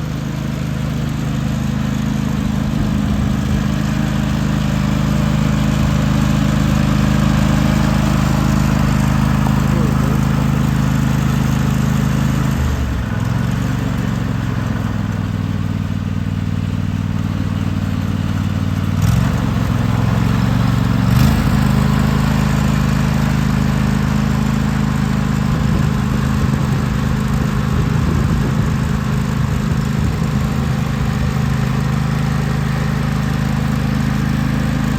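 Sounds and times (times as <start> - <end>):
lawn tractor engine running: 0.0 - 34.9.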